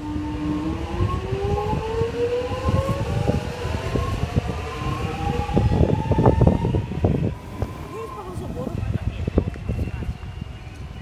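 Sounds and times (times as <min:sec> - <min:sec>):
electric train motors whining: 0:00.0 - 0:10.9
train rumble: 0:00.0 - 0:11.0.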